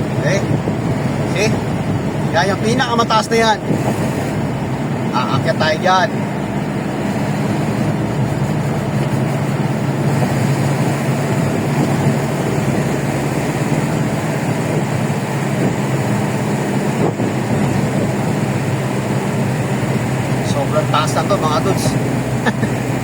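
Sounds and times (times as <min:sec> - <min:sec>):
road and wind noise: 0:00.0 - 0:23.0
vehicle engine hum: 0:00.0 - 0:23.0.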